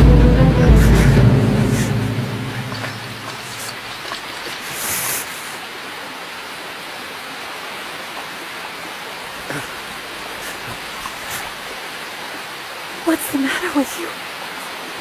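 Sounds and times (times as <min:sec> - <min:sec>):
rushing water hiss: 0:00.1 - 0:15.0.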